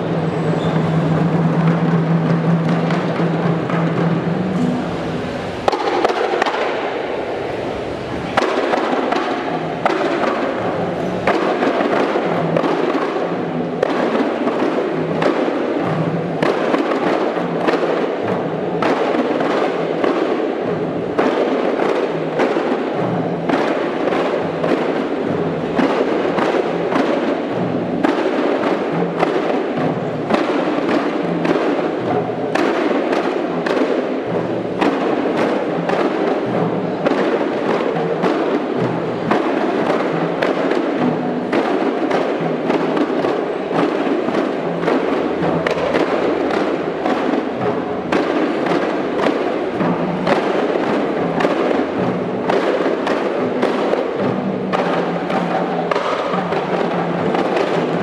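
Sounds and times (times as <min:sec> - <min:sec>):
frame drums playing fast rhythm: 0:00.0 - 0:58.0.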